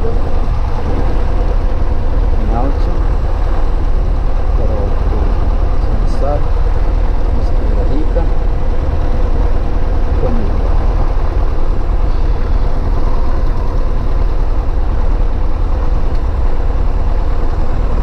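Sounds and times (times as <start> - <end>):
airplane engine and propeller drone: 0.0 - 18.0.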